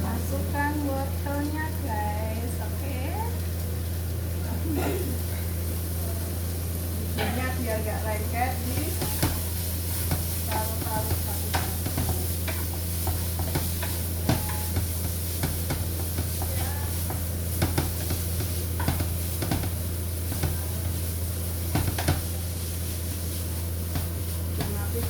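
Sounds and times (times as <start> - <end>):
constant low hum: 0.0 - 25.0
food sizzling: 0.0 - 25.0.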